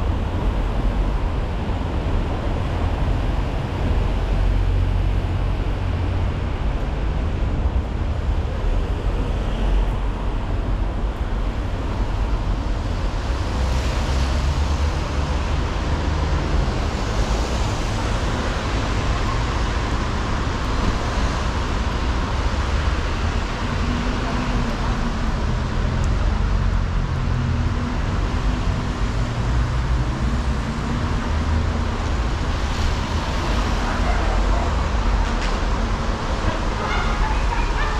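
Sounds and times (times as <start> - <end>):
city traffic rumble: 0.0 - 37.9.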